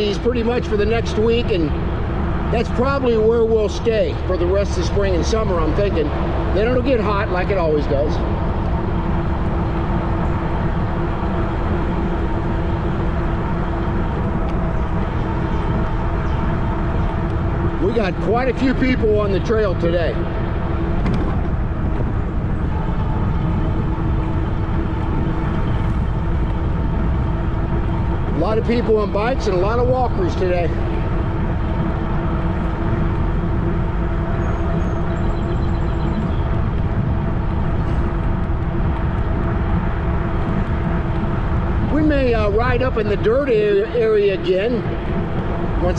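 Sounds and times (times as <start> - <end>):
e-bike drive and tire hum: 0.0 - 45.9
wind rushing on microphone: 0.0 - 45.9.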